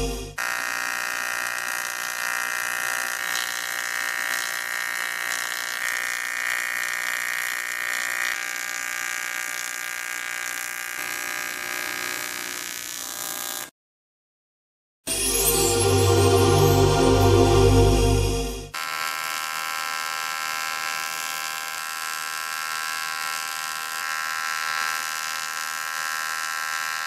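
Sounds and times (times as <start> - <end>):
welding arc buzzing: 0.0 - 13.7, 18.7 - 27.0.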